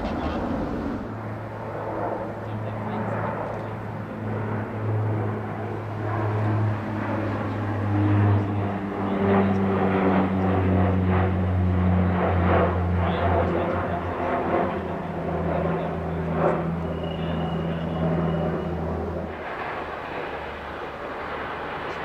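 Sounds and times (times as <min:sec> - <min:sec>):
airliner engines droning: 0:00.0 - 0:22.0.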